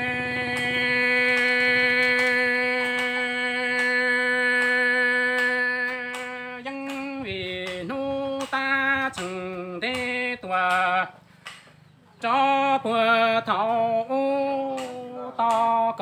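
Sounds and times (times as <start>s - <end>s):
man singing unaccompanied: 0.0s - 11.3s, 12.1s - 16.0s.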